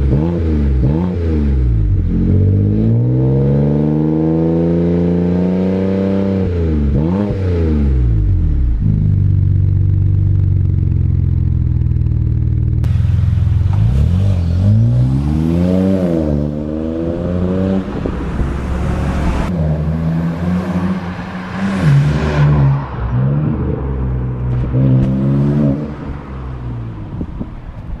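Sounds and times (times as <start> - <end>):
car engine revving: 0.0 - 27.3.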